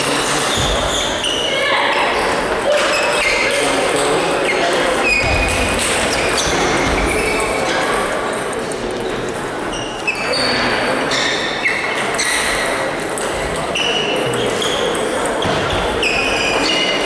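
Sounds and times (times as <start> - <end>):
hum of voices echoing: 0.0 - 17.0.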